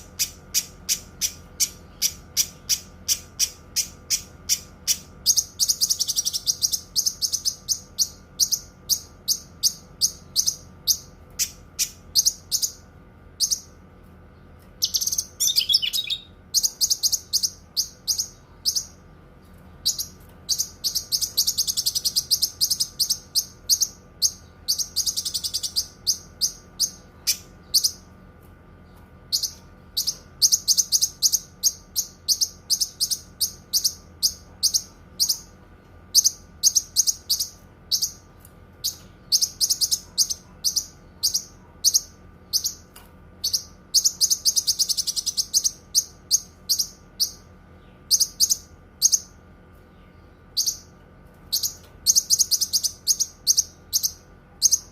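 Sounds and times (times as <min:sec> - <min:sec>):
bird chirping and trilling: 0:00.0 - 0:13.8, 0:14.8 - 0:19.2, 0:19.8 - 0:28.2, 0:28.8 - 0:54.9
faint steady hum: 0:00.0 - 0:54.9.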